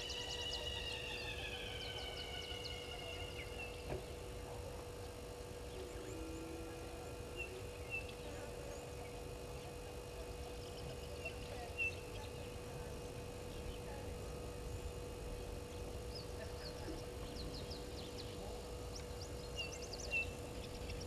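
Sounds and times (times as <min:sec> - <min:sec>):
steady hum and low rumble: 0:00.0 - 0:21.0.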